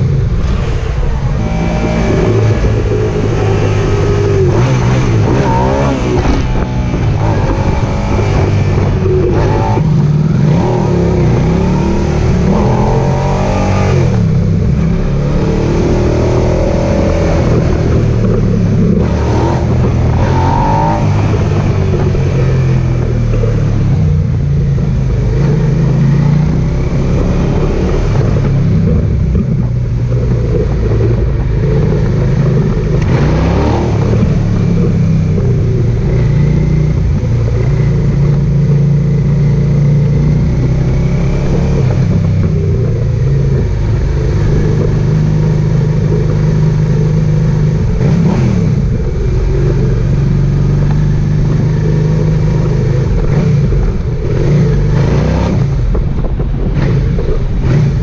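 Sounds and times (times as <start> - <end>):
motorcycle engine running: 0.0 - 58.0
wind noise: 0.0 - 58.0.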